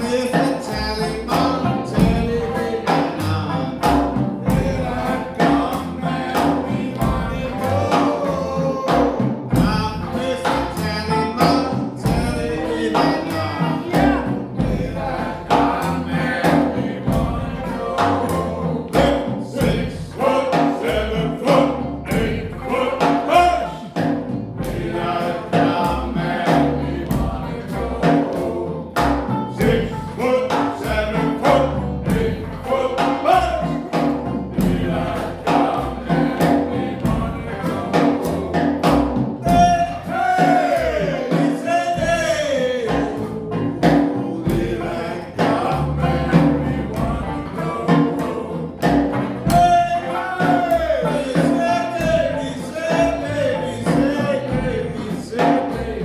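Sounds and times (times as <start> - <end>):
jazz band playing: 0.0 - 56.0
person singing: 0.0 - 56.0.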